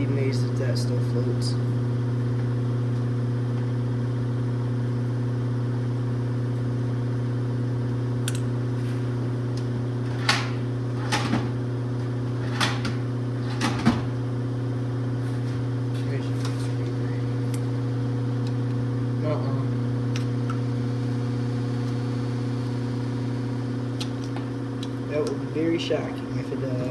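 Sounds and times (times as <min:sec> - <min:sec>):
steady machine hum: 0:00.0 - 0:26.9.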